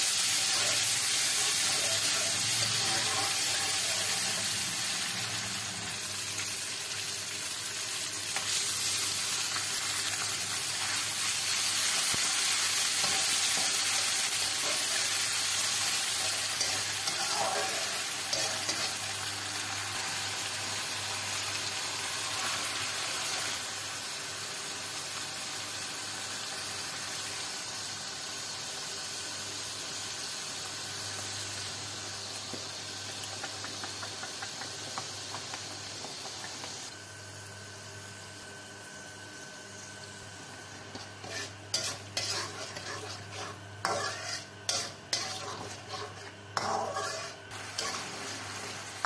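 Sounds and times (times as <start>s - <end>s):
food sizzling in oil: 0.0s - 49.0s.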